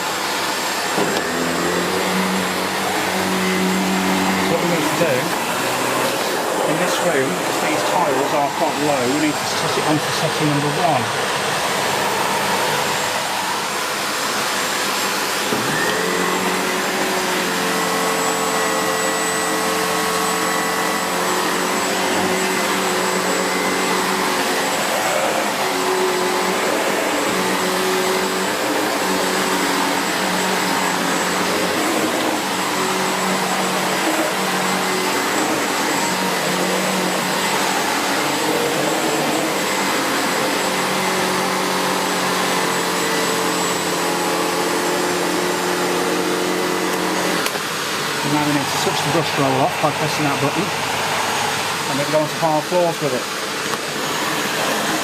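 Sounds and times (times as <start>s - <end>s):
vacuum cleaner running over tiles: 0.0s - 55.0s.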